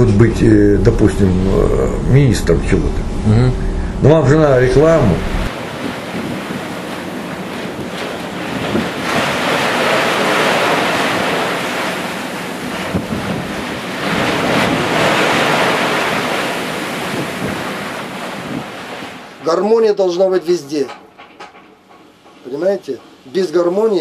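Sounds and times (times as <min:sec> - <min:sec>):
ocean waves washing: 0:00.0 - 0:24.0
wind: 0:00.0 - 0:24.0.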